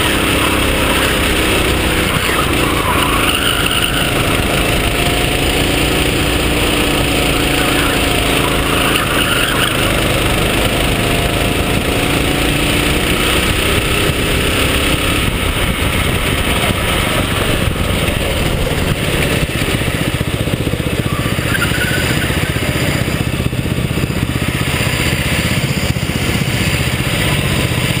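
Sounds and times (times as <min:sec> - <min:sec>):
go-kart engine running hard: 0:00.0 - 0:28.0.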